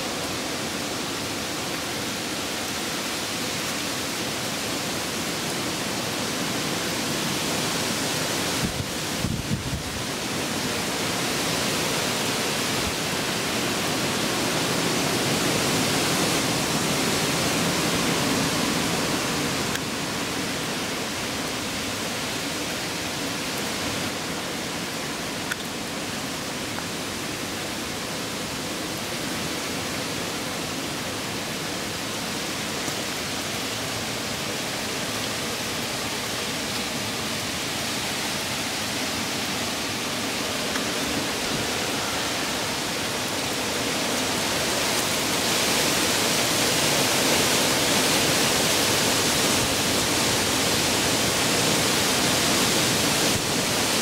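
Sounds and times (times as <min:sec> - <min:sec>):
heavy rain and wind: 0:00.0 - 0:54.0.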